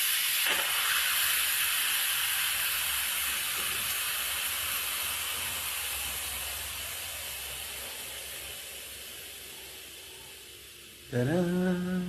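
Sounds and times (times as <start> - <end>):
steam hissing from pressure cooker: 0.0 - 12.0.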